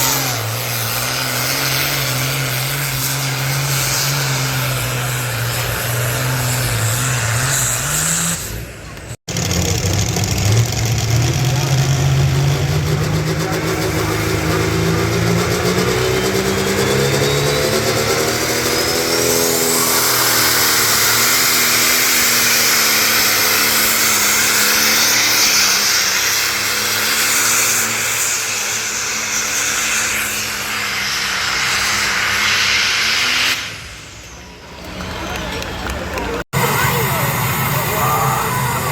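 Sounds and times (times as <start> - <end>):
high rising whine: 0.0 - 34.6, 36.6 - 38.9
tractor engine at full throttle: 0.0 - 38.9.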